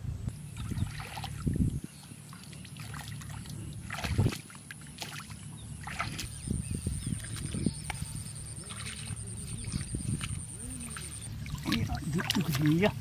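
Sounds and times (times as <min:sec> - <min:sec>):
shallow water splashing: 0:00.5 - 0:13.0.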